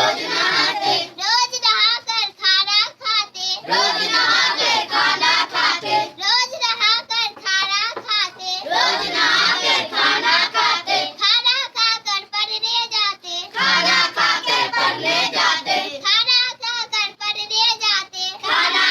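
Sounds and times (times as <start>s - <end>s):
child singing in high voice: 0.0s - 18.9s.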